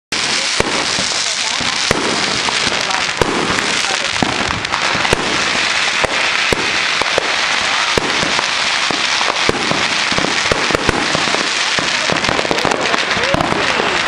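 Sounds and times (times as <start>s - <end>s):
fireworks crackling: 0.1s - 14.0s
sharp firework bangs: 0.1s - 14.0s.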